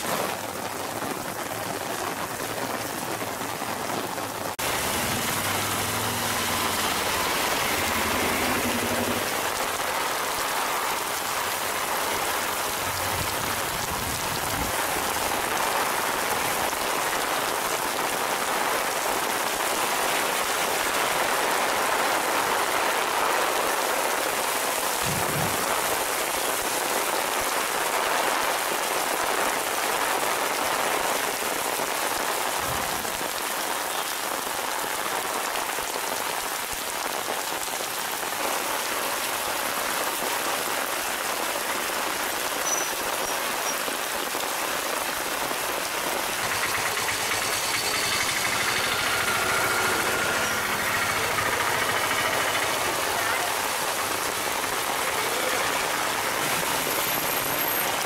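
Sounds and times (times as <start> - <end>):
heavy rain on a paved road: 0.0 - 58.0.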